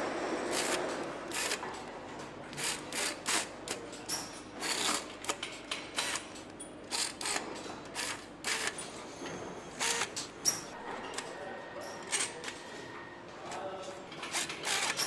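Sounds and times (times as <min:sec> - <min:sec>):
tool clicks and clacks: 0:00.5 - 0:09.0, 0:09.8 - 0:12.6, 0:13.5 - 0:15.0.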